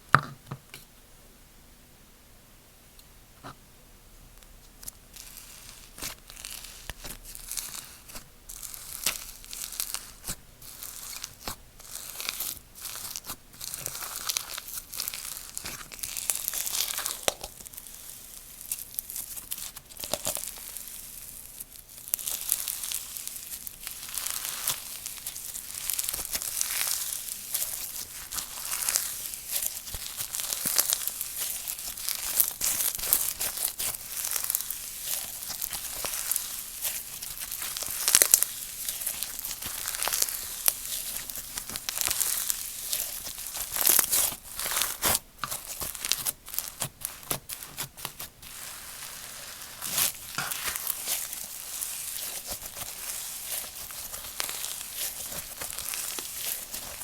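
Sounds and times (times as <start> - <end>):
slime crackling and squishing: 4.8 - 57.0.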